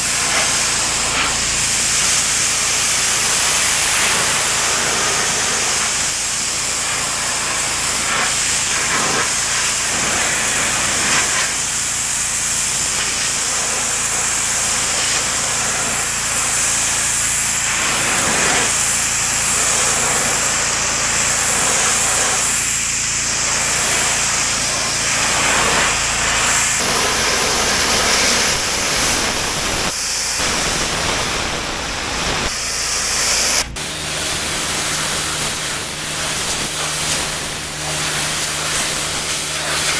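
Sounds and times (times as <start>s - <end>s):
pressure washer water jet hissing: 0.0s - 39.9s.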